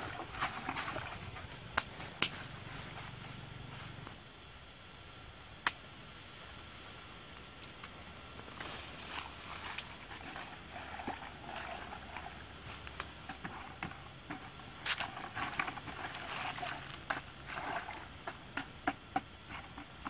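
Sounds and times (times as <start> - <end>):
leaves rustling and crackling: 0.0 - 4.2, 6.3 - 18.2.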